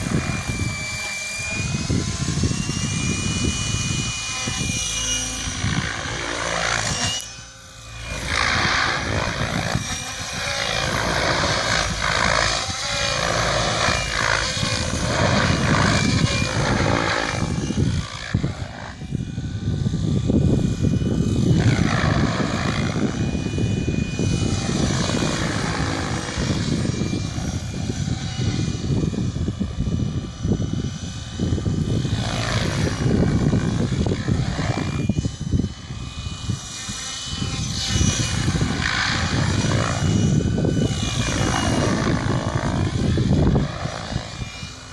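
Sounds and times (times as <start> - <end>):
helicopter rotor and motor whine: 0.0 - 44.9.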